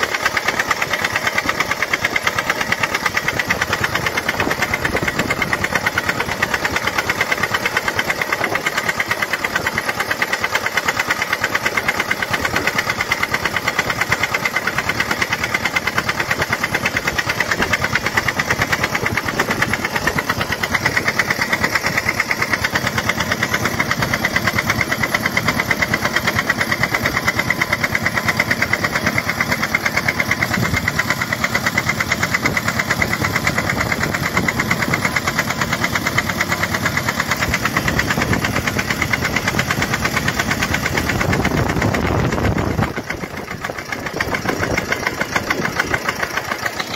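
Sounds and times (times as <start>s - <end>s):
tractor engine pulsing: 0.0s - 46.9s.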